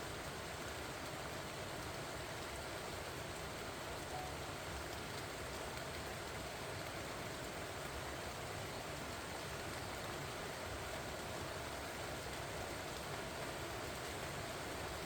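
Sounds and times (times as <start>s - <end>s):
steady rain on leaves: 0.0s - 15.0s.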